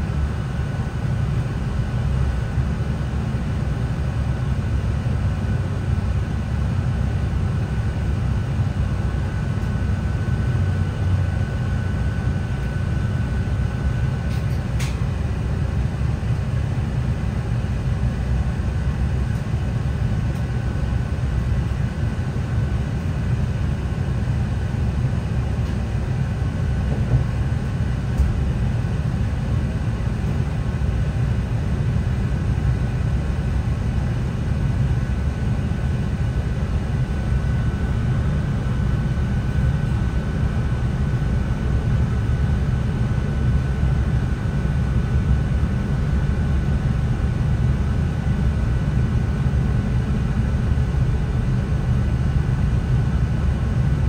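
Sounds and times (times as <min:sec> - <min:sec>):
train cabin low rumble: 0:00.0 - 0:54.0.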